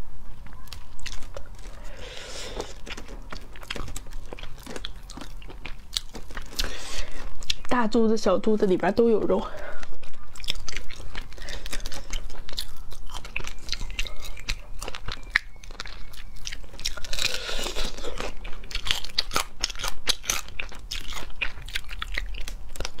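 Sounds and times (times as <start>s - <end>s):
shells cracking and crunching: 0.4s - 7.7s, 9.6s - 23.0s
close-up chewing: 0.4s - 23.0s.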